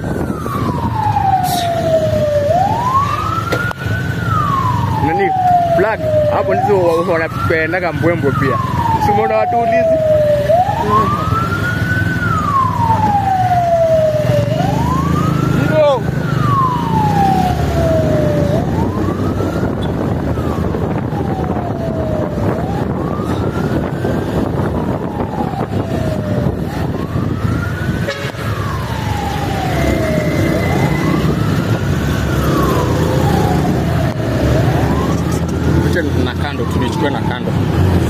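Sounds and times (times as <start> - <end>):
engine and road noise: 0.0 - 38.0
police siren wailing: 0.0 - 38.0.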